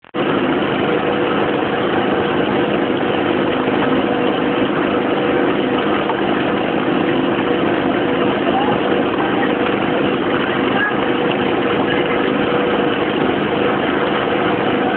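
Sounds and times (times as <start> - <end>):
engine running steadily: 0.0 - 14.9.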